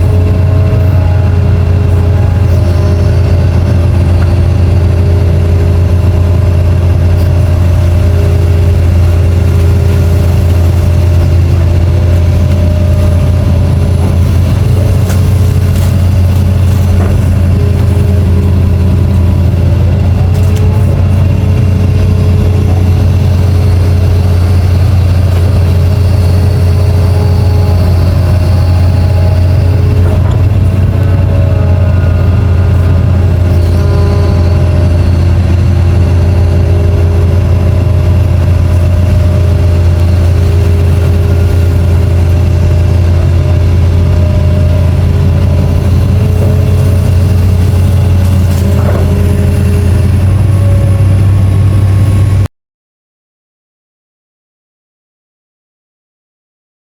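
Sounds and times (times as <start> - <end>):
excavator diesel engine running: 0.0 - 52.5
machine whining: 0.0 - 52.5.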